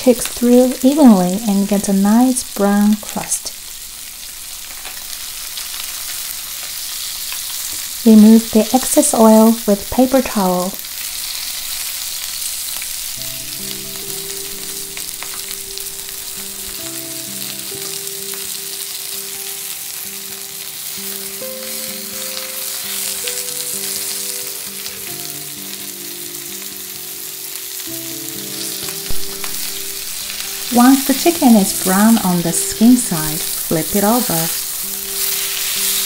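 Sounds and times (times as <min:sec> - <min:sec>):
chicken sizzling in a pan: 0:00.0 - 0:36.0
soft background music: 0:00.0 - 0:36.0.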